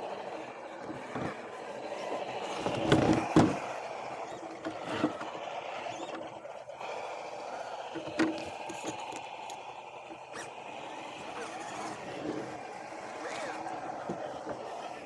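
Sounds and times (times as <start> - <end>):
electric motor and gears whirring: 0.0 - 15.0.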